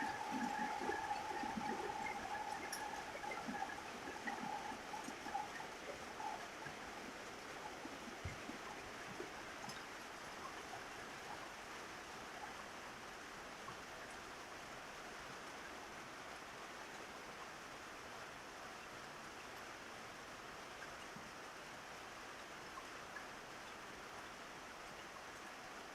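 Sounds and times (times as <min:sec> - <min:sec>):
rain falling on a roof: 0:00.0 - 0:25.9.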